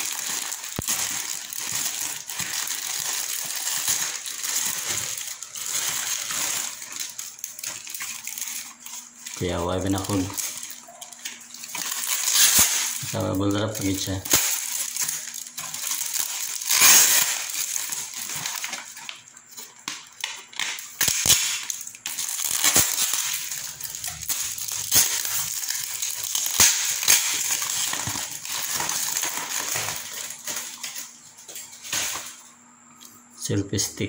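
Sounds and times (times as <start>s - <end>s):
bubble wrap crinkling: 0.0s - 32.7s.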